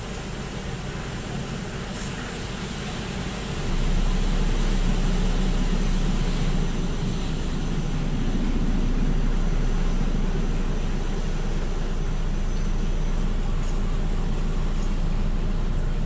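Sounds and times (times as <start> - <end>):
low mechanical hum: 0.0 - 16.0
water spraying: 0.0 - 16.0.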